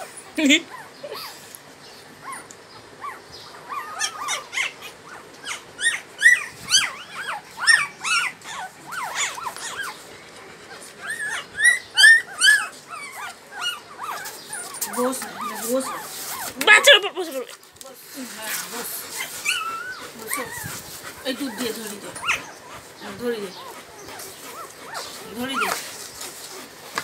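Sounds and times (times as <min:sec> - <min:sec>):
puppies crying: 0:00.0 - 0:17.7, 0:18.3 - 0:27.0.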